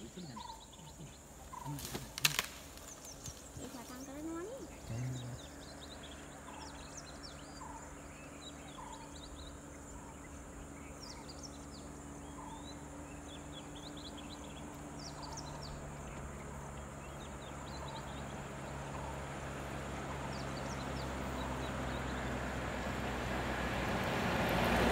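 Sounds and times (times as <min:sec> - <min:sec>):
forest birds chirping: 0:00.0 - 0:24.9
vehicle engine idling: 0:00.0 - 0:24.9.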